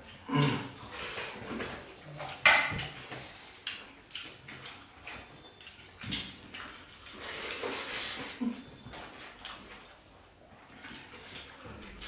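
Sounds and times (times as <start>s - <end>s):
chewing and lip-smacking: 0.0s - 12.0s.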